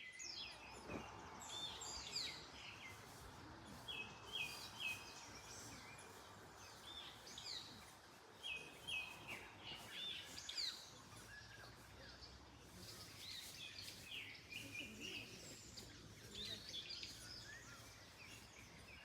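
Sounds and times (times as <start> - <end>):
songbirds chirping: 0.0 - 19.0
wind in trees: 0.0 - 19.0.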